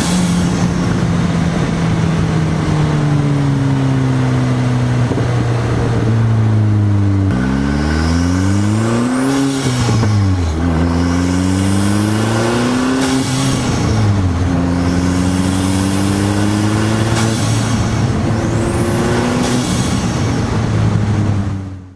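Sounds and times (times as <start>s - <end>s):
car engine revving through gears: 0.0s - 21.9s.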